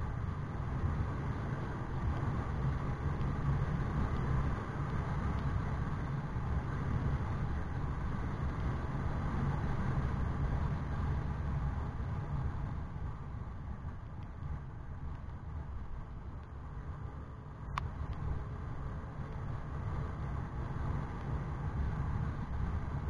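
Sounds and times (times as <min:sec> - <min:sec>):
vehicle road and wind noise: 0:00.0 - 0:23.0.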